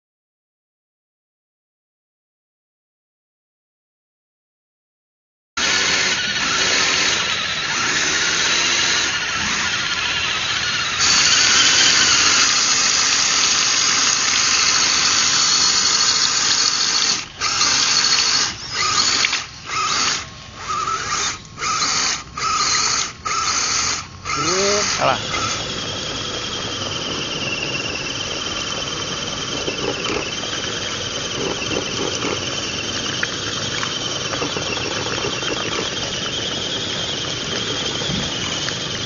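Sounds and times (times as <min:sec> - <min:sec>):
electric motor and drivetrain whining: 0:05.6 - 0:39.0.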